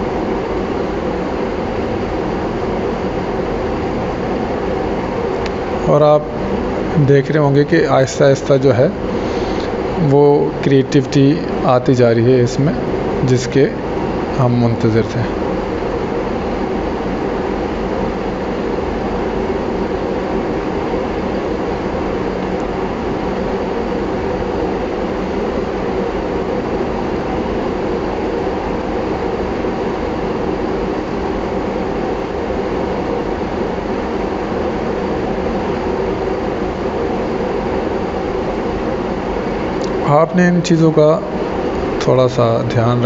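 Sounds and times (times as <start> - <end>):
air conditioner hum: 0.0 - 43.0.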